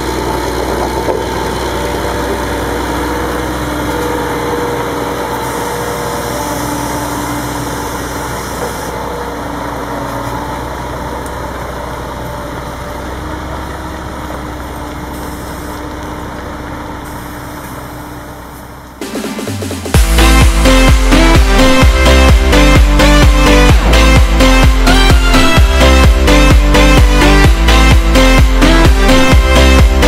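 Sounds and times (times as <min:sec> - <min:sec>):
diesel engine of harvest machinery: 0:00.0 - 0:30.0.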